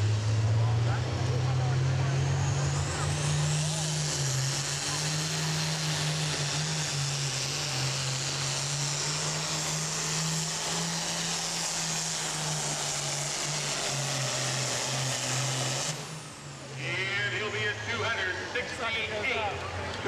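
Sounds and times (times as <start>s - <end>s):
diesel engine droning under load: 0.0s - 20.0s.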